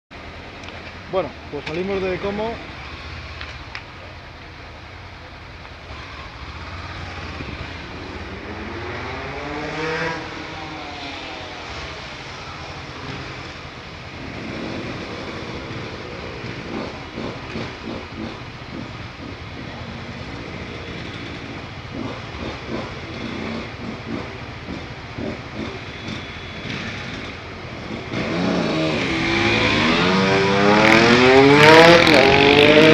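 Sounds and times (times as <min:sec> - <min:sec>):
motorcycle engine revving and idling: 0:01.2 - 0:32.9.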